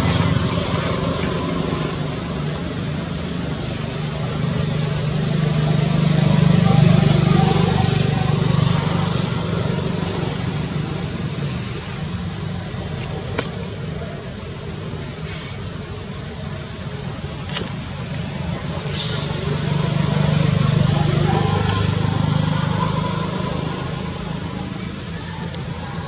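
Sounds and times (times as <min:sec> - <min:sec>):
passing vehicle engine rumble: 0:00.0 - 0:26.0.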